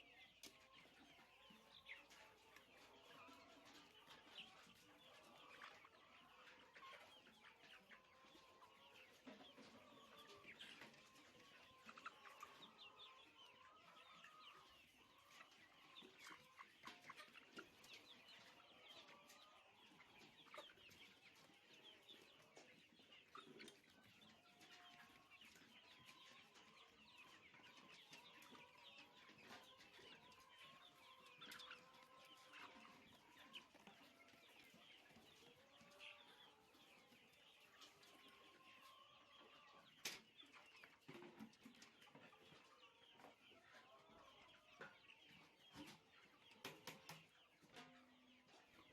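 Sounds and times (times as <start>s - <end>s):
chickens clucking: 0.0s - 48.9s.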